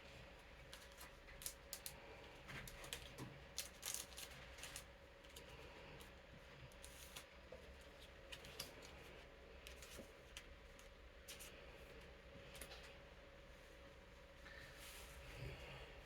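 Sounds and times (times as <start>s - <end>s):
electric fan hum: 0.0s - 16.0s.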